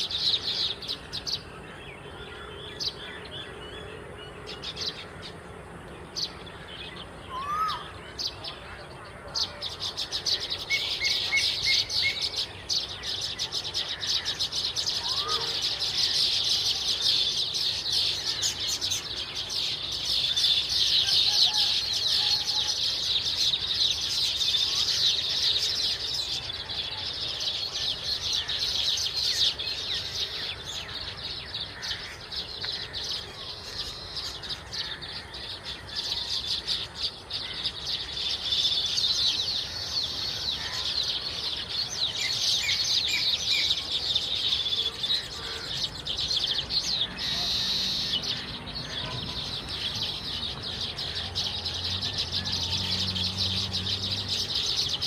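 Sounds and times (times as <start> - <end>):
flock of birds chattering: 0.0 - 55.0.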